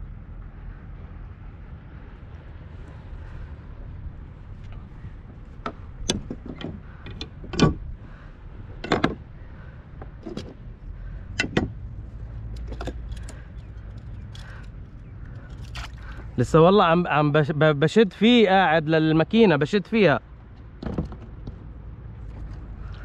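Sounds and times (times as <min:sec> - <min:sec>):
steady low rumble: 0:00.0 - 0:20.6.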